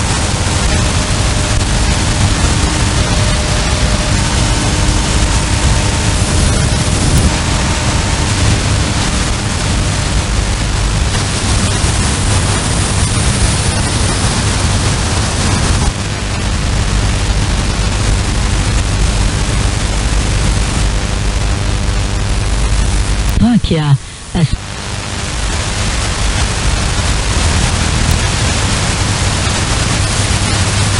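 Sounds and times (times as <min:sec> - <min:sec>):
radio interference hiss: 0:00.0 - 0:30.9.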